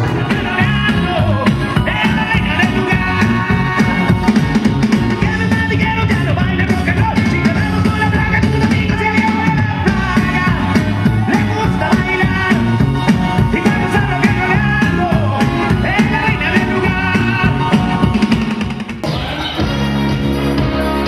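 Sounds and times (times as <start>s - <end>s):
loud rock music with singing: 0.0s - 21.0s.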